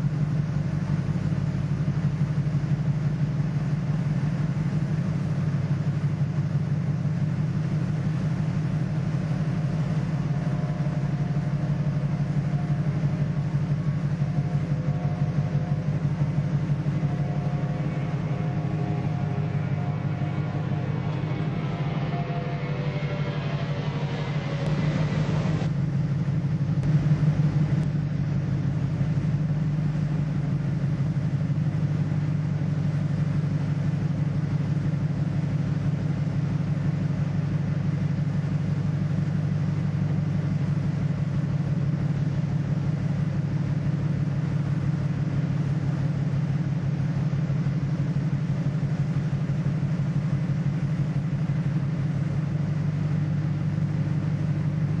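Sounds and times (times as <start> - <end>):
ship engine droning: 0.0 - 55.0.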